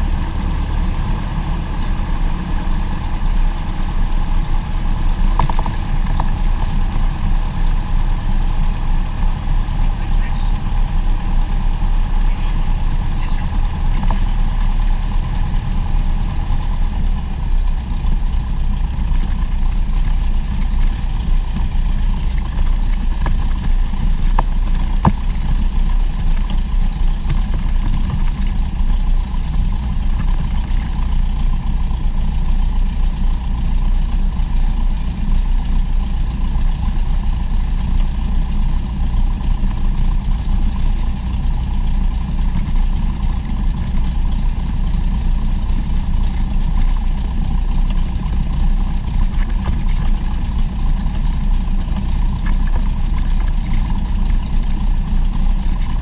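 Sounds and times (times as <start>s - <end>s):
propeller aircraft engines droning: 0.0s - 56.0s.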